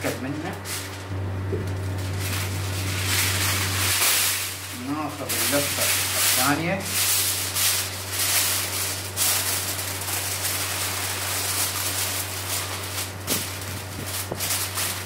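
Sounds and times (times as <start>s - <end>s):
aluminium foil crinkling: 0.0s - 15.0s
steady low hum: 0.0s - 15.0s.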